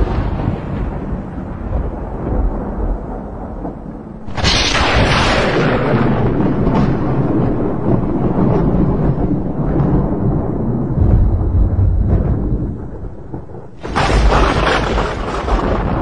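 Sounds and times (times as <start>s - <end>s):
thunder rumbling and cracking: 0.0s - 16.0s.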